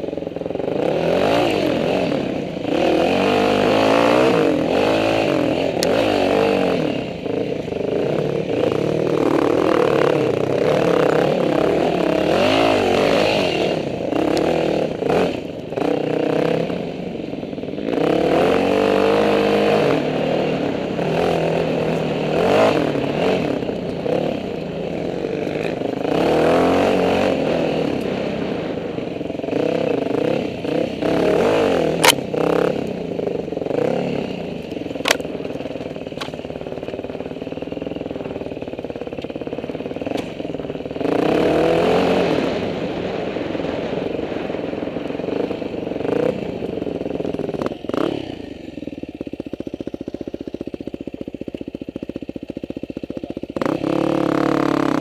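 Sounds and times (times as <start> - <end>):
dirt bike engine revving: 0.4 - 55.0.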